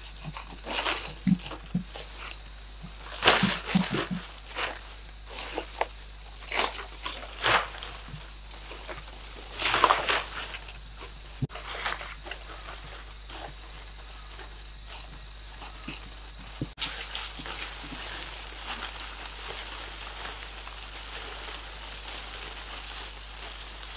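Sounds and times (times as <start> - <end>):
dry leaves crackling: 0.0 - 23.9
leaves rustling by hand: 0.0 - 23.9.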